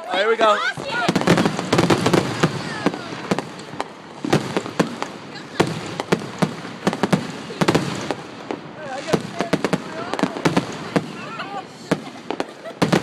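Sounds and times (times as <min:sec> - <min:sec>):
fireworks crackle: 0:00.0 - 0:13.0
fireworks sharp bangs: 0:00.6 - 0:13.0.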